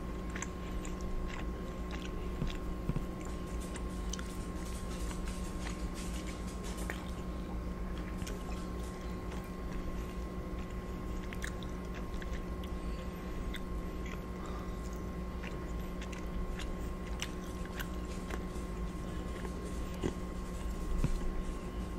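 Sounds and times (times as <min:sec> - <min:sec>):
close chewing with mouth clicks: 0:00.0 - 0:21.9
steady hum: 0:00.0 - 0:21.9.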